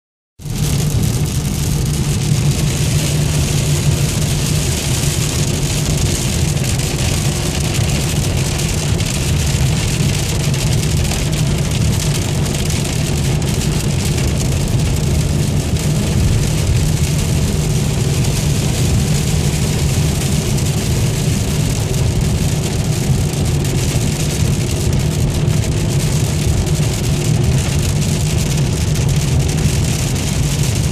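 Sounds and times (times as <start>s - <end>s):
engine and road noise: 0.4s - 30.9s
rain on windshield: 0.4s - 30.9s
tyres on wet road: 0.4s - 30.9s.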